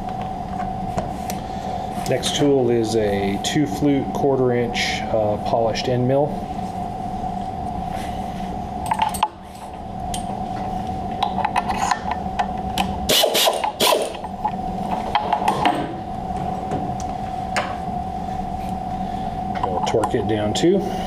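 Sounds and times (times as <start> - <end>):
machine steady hum: 0.0 - 21.0.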